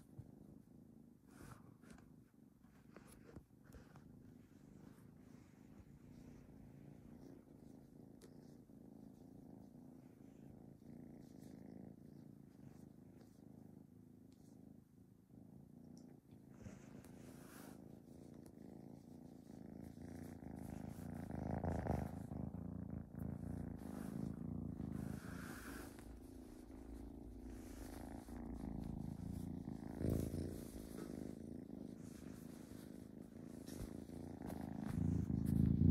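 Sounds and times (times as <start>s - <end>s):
kitten purring: 0.0s - 35.9s.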